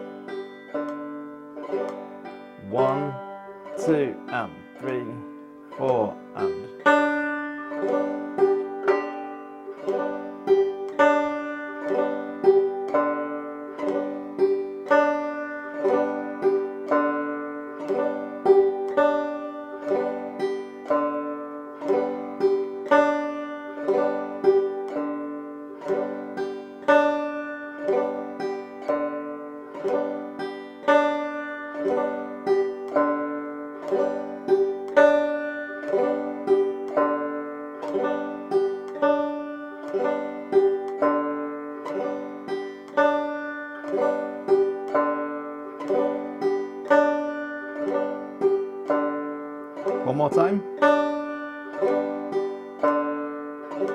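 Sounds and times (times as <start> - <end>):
banjo strumming: 0.0 - 53.9.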